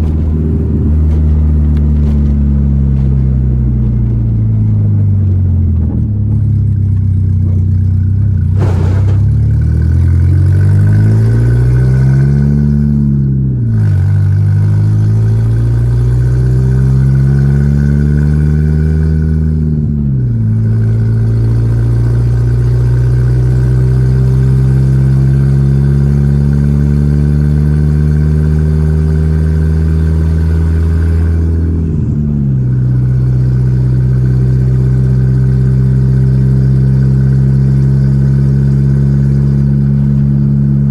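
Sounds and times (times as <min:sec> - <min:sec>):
car engine shifting gears: 0:00.0 - 0:40.9.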